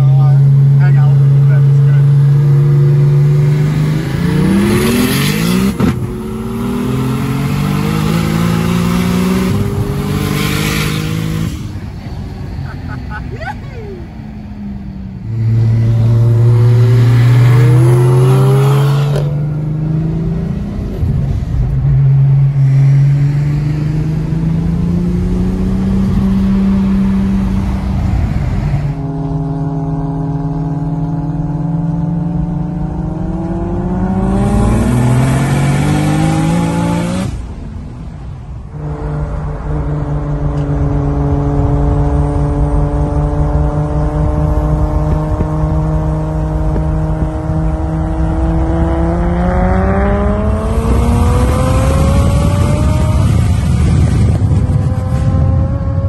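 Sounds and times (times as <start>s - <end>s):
race car engine revving: 0.0s - 11.9s, 15.1s - 37.5s, 38.7s - 56.0s.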